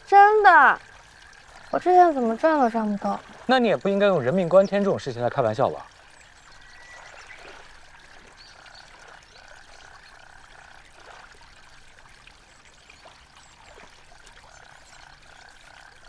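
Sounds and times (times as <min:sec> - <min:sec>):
frogs chorus: 0:00.0 - 0:16.0
trickling water: 0:00.0 - 0:16.0.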